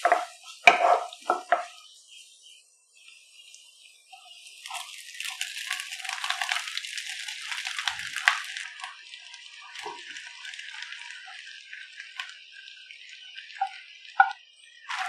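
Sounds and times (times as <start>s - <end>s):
rice grains crackling in pan: 0.0s - 15.0s
sizzling oil: 0.0s - 15.0s.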